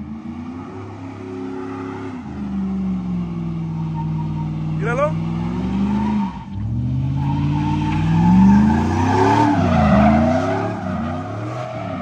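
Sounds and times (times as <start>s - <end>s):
tire squealing on pavement: 0.0s - 12.0s
truck engine revving: 0.0s - 12.0s.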